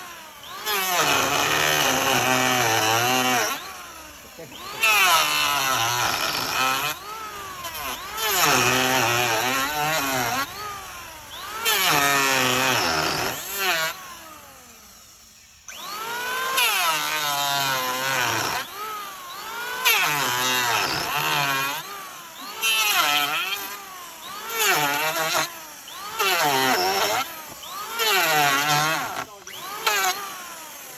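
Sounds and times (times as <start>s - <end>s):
wood lathe cutting wood: 0.0s - 30.9s.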